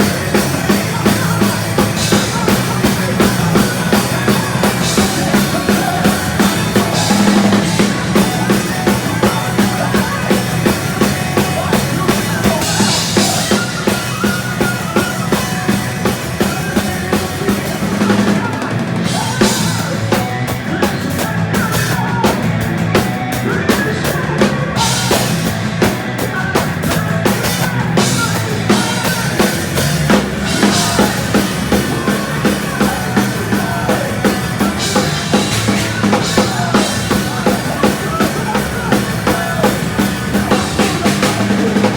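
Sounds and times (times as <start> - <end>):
bass guitar: 0.0 - 41.9
distorted electric guitars: 0.0 - 41.9
fast loud drumming: 0.0 - 41.9.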